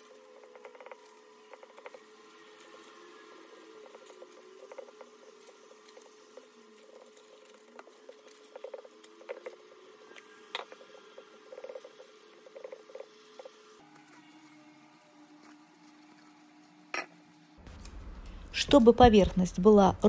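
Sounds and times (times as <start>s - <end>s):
parchment paper crinkling: 0.0s - 17.4s
plastic glove rustling: 0.0s - 20.0s.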